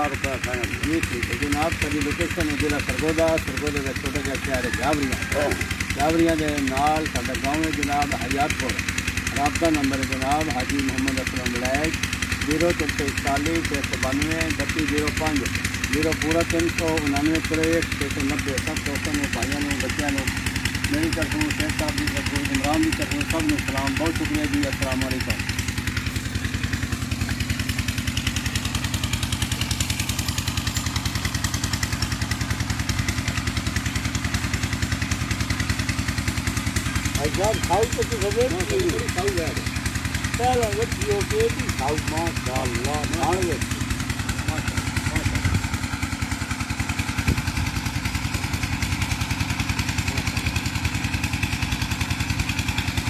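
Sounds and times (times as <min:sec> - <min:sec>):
engine running with pulsing beat: 0:00.0 - 0:53.0.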